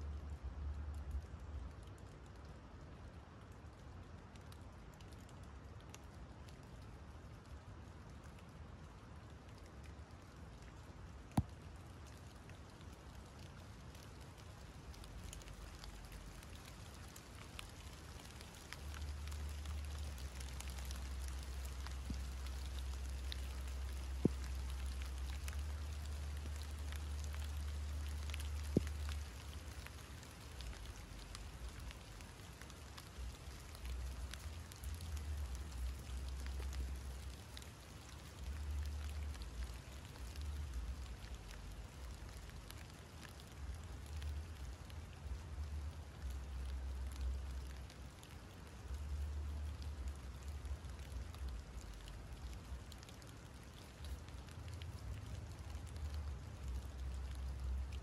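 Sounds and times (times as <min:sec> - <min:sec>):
rain pattering on foliage: 0:00.0 - 0:58.0.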